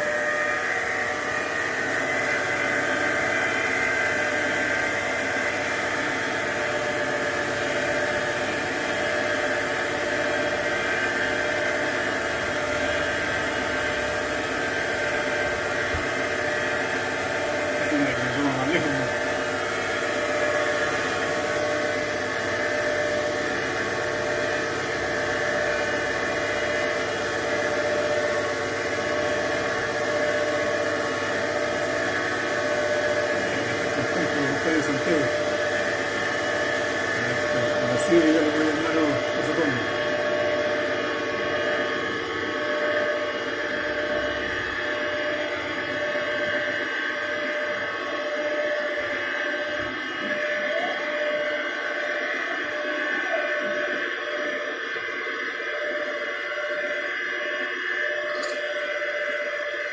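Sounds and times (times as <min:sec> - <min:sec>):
lathe humming with whining tones: 0:00.0 - 0:59.9.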